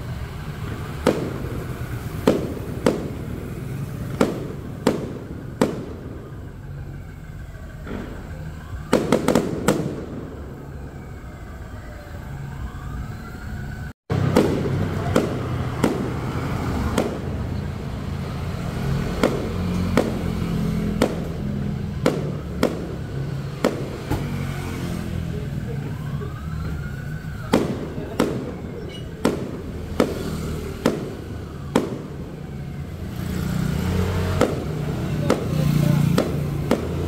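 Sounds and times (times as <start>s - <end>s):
vehicle engine humming: 0.0s - 37.0s
fireworks bangs: 0.1s - 11.8s, 14.1s - 37.0s.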